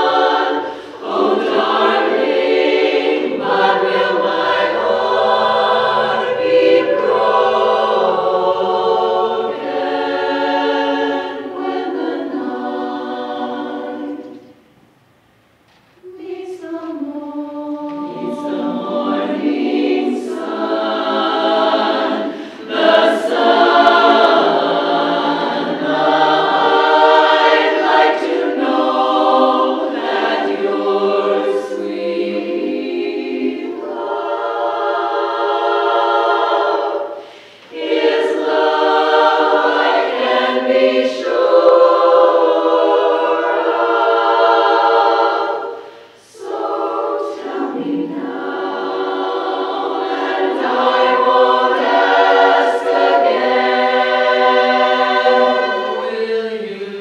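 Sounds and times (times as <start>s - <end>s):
women's chorus singing a cappella: 0.0s - 14.8s, 16.0s - 57.0s.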